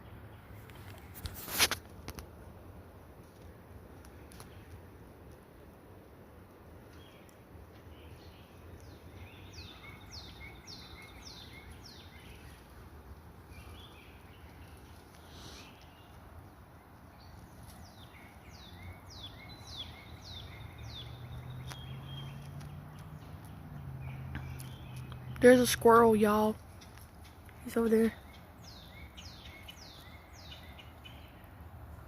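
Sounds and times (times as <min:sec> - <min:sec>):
faint outdoor rumble: 0:00.0 - 0:32.0
songbird chirping: 0:02.1 - 0:32.0.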